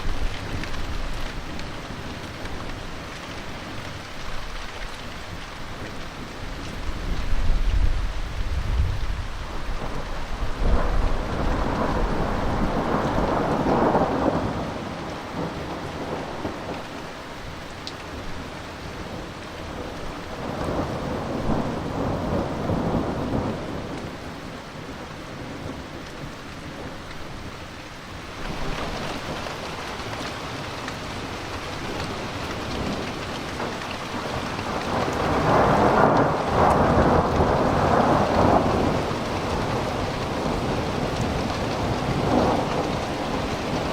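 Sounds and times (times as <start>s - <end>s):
heavy rain: 0.0s - 43.9s
thunder rumbling: 6.8s - 27.0s, 28.4s - 43.9s.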